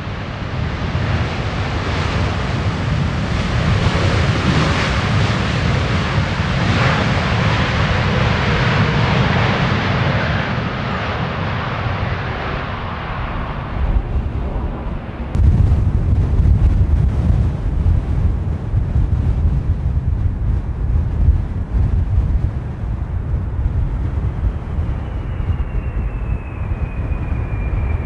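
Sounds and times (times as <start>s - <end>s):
jet engine roar: 0.0s - 28.0s
wind rumbling on microphone: 0.0s - 28.0s.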